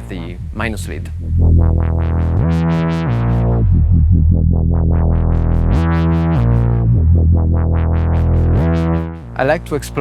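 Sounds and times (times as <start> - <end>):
synthesizer bass line and plucks: 0.0 - 10.0.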